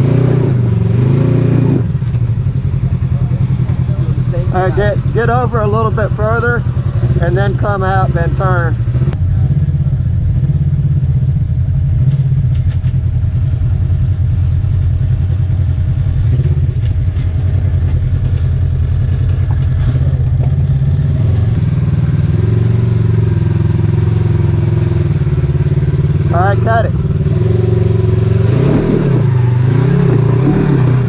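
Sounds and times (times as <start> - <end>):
higher engine note: 0.0 - 31.0
utility vehicle engine rumbling: 0.0 - 31.0.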